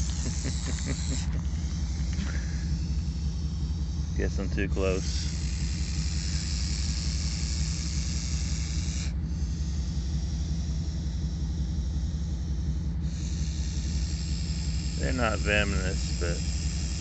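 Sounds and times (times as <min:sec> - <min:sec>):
snake hissing: 0:00.0 - 0:12.4, 0:13.0 - 0:17.0
low engine rumble: 0:00.0 - 0:17.0.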